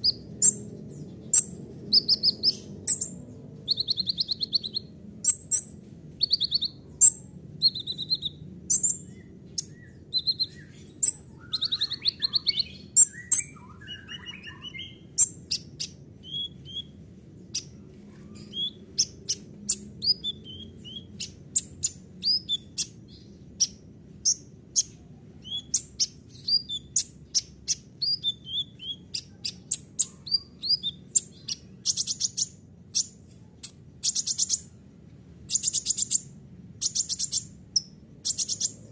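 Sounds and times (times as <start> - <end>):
sunbird singing: 0.0 - 34.8, 35.4 - 38.9
faint low hum: 0.0 - 38.9.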